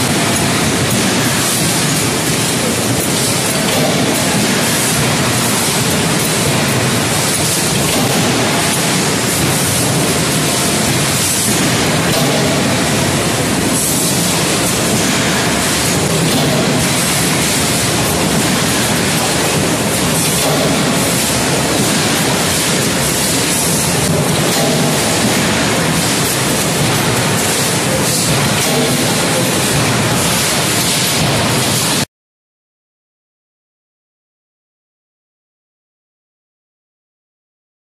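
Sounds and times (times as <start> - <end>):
forging machinery roar: 0.0 - 32.1.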